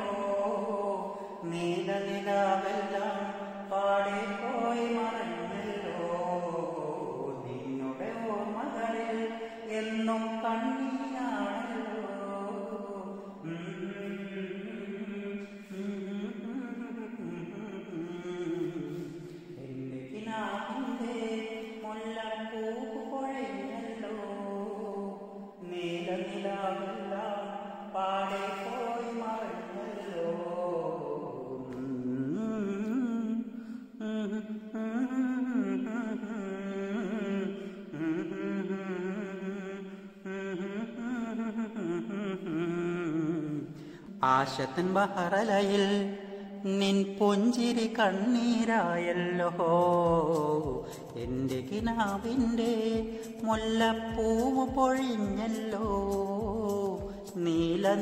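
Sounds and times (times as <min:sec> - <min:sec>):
man singing unaccompanied: 0:00.0 - 0:58.0.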